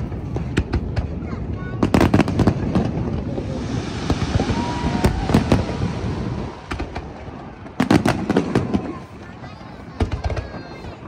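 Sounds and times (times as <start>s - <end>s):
sharp firework bangs: 0.0s - 9.3s
firework crackling: 0.0s - 11.0s.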